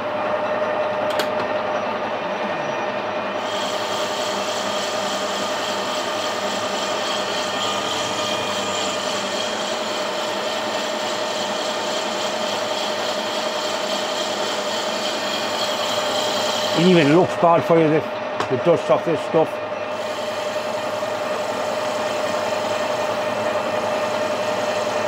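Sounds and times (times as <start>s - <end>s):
metal lathe whining: 0.0s - 25.0s.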